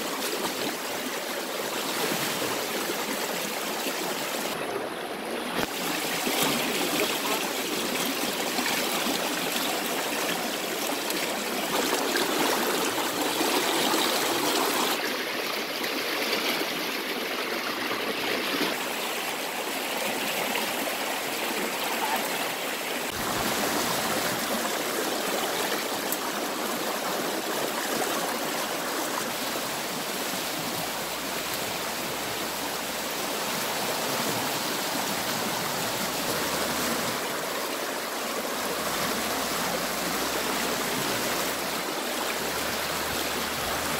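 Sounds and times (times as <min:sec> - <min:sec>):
river water rushing over rapids: 0:00.0 - 0:43.9.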